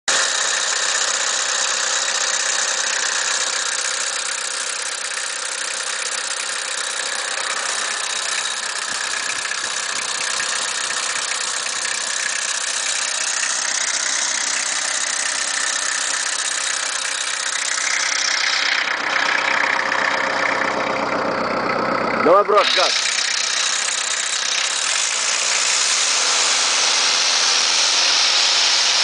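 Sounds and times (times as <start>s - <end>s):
tractor engine idling: 0.1s - 29.0s.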